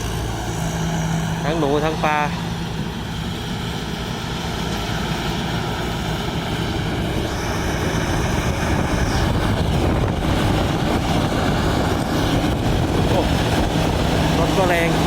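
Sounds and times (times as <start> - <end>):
combine harvester running: 0.0 - 15.0
faint high whine: 0.0 - 15.0.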